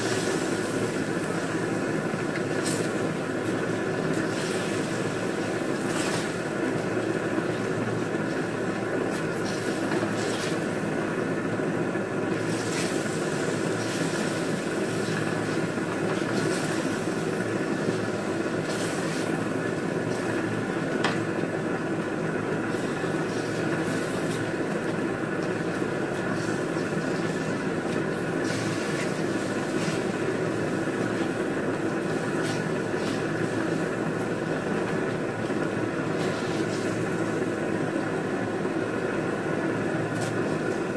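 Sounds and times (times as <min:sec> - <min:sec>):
meat frying in a wok: 0:00.0 - 0:40.9.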